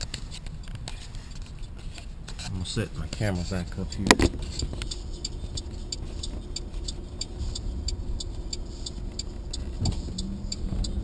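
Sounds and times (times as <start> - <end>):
car engine and road rumble: 0.0 - 11.0
light regular ticking: 0.0 - 11.0.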